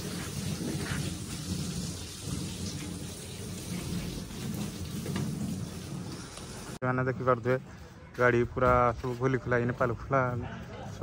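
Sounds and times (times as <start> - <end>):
low uneven rumbling: 0.0 - 9.4.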